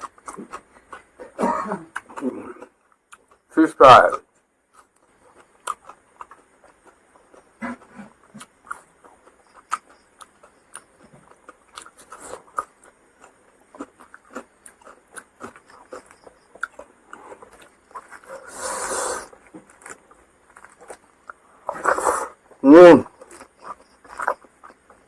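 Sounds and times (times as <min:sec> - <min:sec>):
person chewing food: 0:00.0 - 0:03.5, 0:04.3 - 0:25.0.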